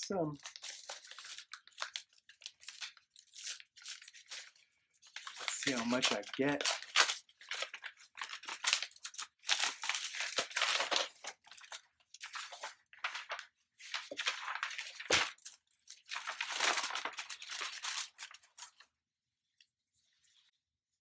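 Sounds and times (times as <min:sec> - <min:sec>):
paper crinkling and rustling: 0:00.1 - 0:19.0
envelope tearing: 0:00.4 - 0:18.9.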